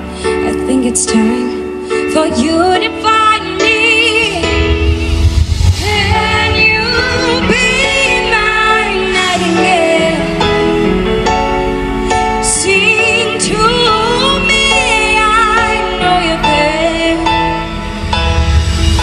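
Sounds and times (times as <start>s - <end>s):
musical accompaniment: 0.0s - 19.0s
woman singing pop ballad: 0.2s - 4.9s, 5.8s - 10.9s, 12.1s - 17.8s.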